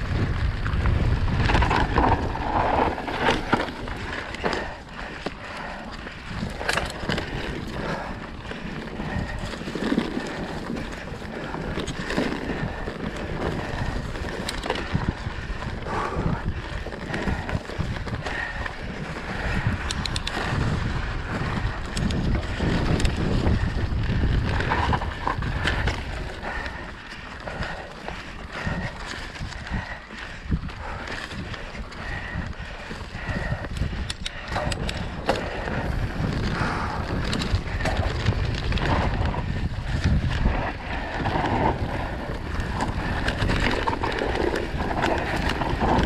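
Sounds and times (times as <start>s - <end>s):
bike knocking and rattling: 0.0s - 46.0s
bike tyres rolling over dirt: 0.0s - 46.0s
wind on microphone: 0.0s - 46.0s.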